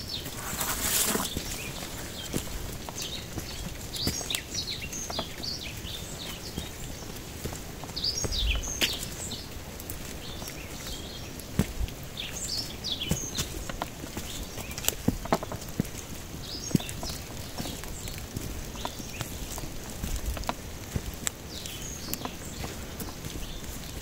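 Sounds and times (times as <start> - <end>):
footsteps on dirt trail: 0.0 - 24.0
small birds chirping: 0.0 - 24.0.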